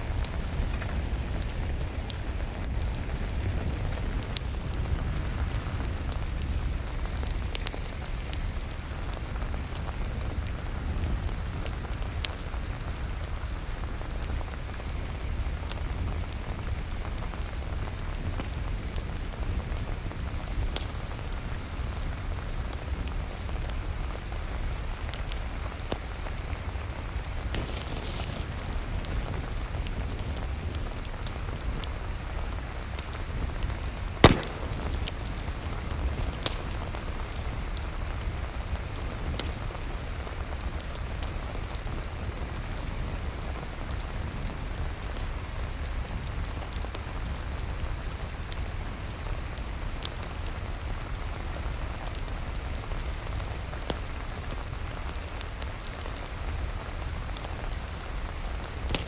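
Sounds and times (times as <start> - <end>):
steady rain: 0.0 - 59.0
wood fire crackling and popping: 0.1 - 41.9, 45.2 - 59.0.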